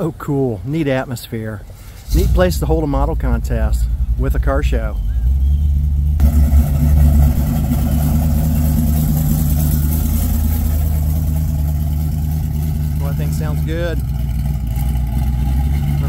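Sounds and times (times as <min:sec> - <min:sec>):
pickup engine idling: 0:01.6 - 0:16.0.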